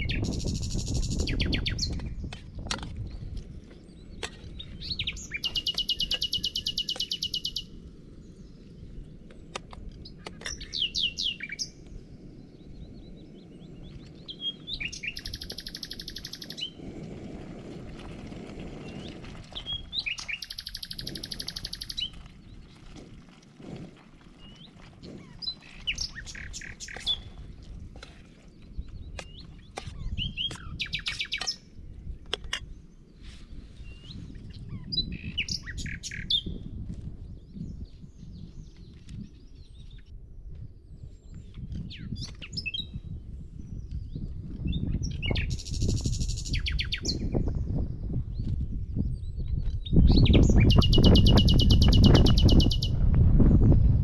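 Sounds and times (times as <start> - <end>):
songbirds trilling and chirping: 0.0 - 16.9, 17.9 - 23.1, 24.0 - 53.0.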